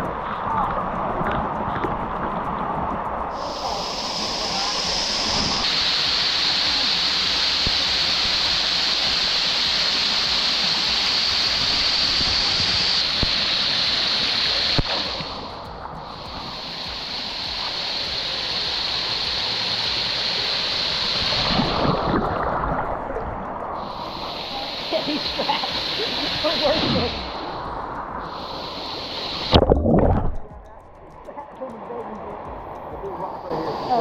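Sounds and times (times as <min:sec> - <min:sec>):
waterfall pouring and splashing: 0:00.0 - 0:34.0.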